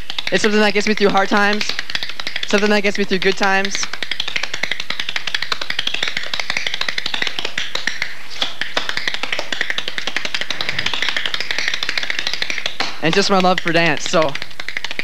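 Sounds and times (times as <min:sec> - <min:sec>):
tap shoes on hard floor: 0:00.1 - 0:15.0.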